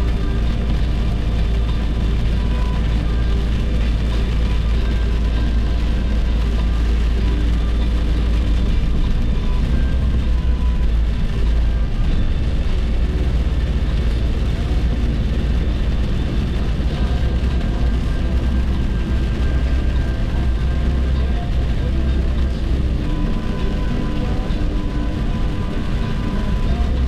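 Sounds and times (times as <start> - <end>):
car cabin road and engine rumble: 0.0 - 27.0.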